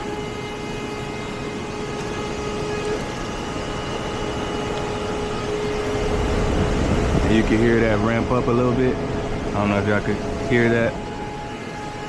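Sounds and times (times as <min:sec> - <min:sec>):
air handler blower running: 0:00.0 - 0:12.0.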